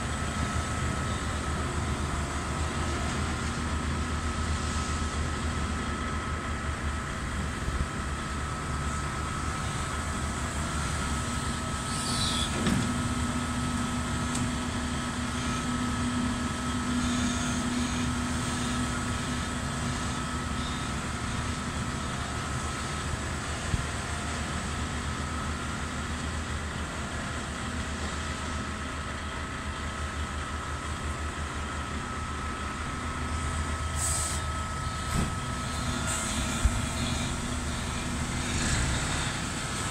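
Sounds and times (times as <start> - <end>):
diesel engine running: 0.0 - 39.9
thin steady whine: 0.0 - 39.9.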